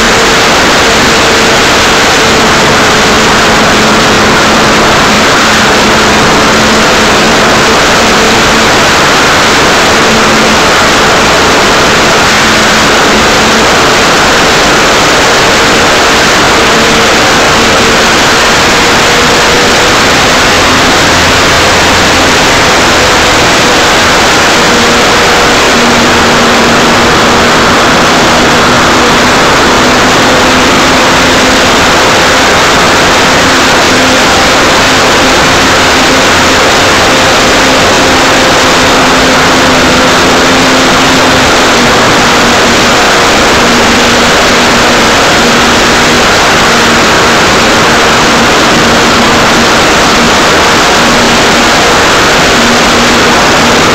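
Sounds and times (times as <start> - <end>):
faint motor and propeller hum: 0.0 - 53.9
wind rushing over microphone: 0.0 - 53.9.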